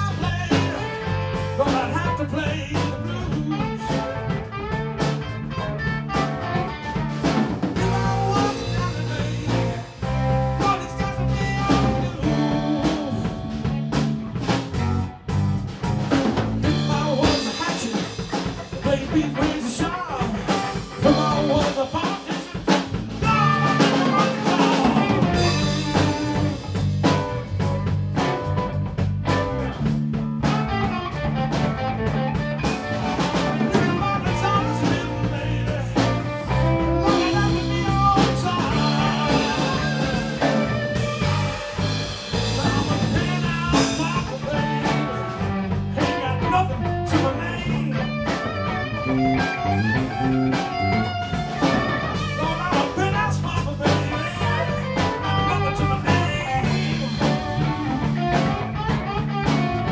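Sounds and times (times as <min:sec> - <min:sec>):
blues rock band playing: 0:00.0 - 0:59.9.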